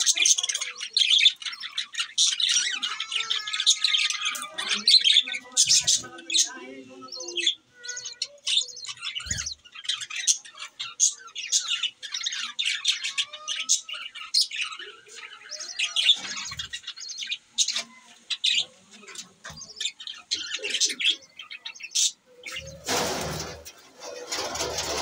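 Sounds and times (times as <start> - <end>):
budgerigars chattering: 0.0 - 25.0.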